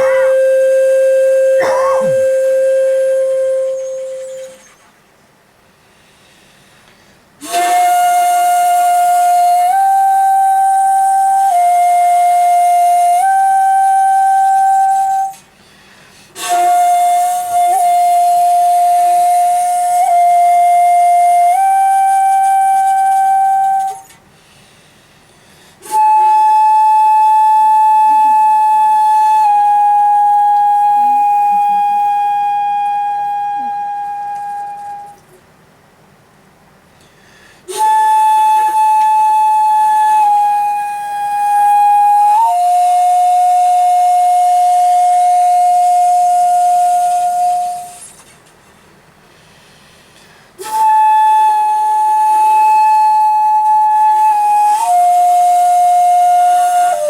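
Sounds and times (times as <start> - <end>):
shakuhachi flute solo: 0.0 - 5.0, 7.4 - 24.3, 25.5 - 35.4, 37.4 - 48.3, 50.5 - 57.0.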